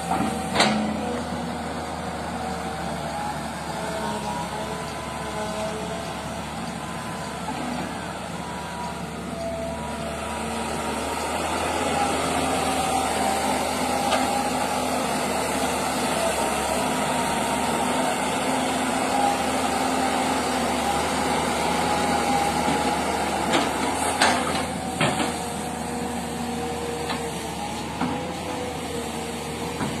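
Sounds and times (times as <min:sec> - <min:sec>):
heavy machine engine whining: 0:00.0 - 0:30.0.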